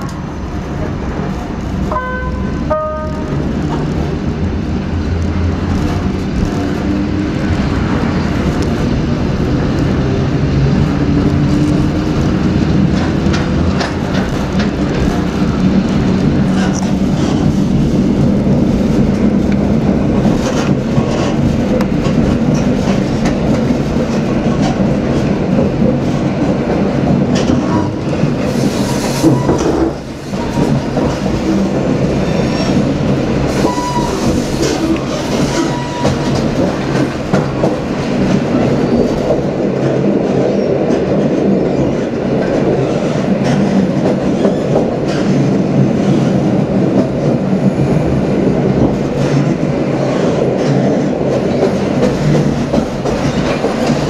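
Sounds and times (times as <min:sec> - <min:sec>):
train wheels rumbling on rail: 0:00.0 - 0:54.0
wheels clacking over rail joints: 0:05.2 - 0:47.3, 0:48.7 - 0:54.0.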